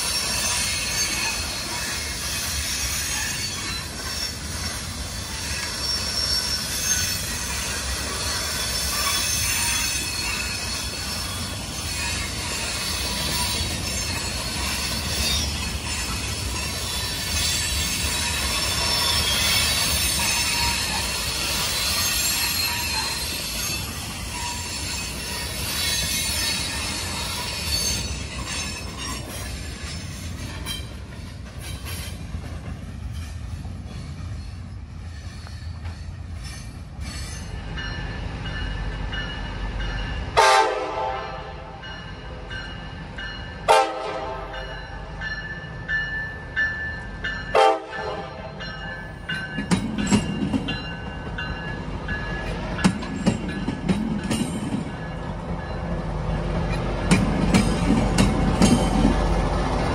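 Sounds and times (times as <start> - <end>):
low train rumble: 0.0 - 59.9
train wheels squealing on rails: 0.0 - 59.9.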